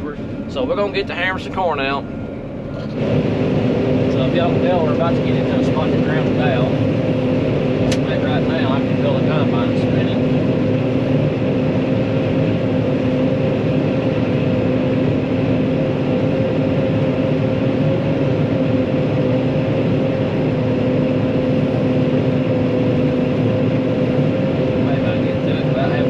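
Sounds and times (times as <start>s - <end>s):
combine harvester drone: 0.0s - 26.0s.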